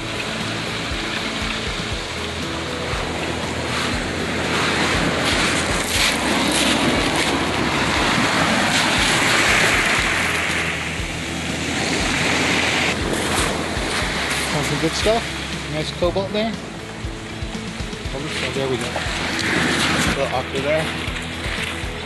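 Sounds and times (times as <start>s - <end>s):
surf on pebble beach: 0.0s - 22.0s
wind buffeting microphone: 0.0s - 22.0s.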